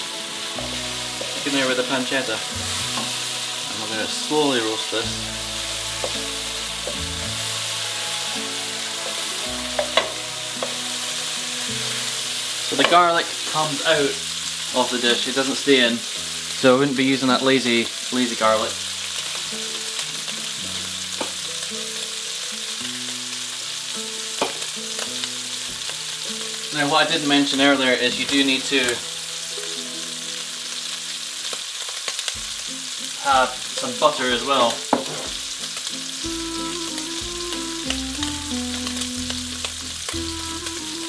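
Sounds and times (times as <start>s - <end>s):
food sizzling in frying pan: 0.0s - 41.0s
soft background music: 0.0s - 41.0s
soft melody: 0.0s - 41.0s.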